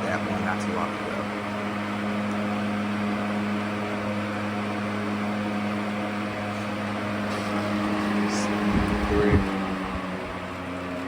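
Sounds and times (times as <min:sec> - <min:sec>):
box fan running: 0:00.0 - 0:11.0.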